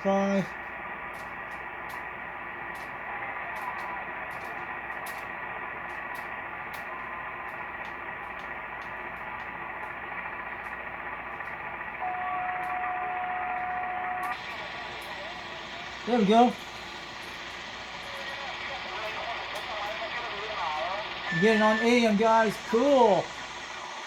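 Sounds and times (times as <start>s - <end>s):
radio static hiss: 0.0s - 24.0s
crackling clicks: 0.4s - 24.0s.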